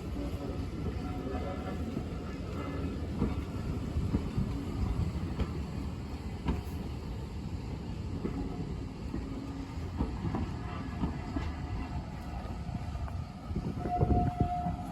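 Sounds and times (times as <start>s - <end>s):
train rumbling along track: 0.0s - 14.9s.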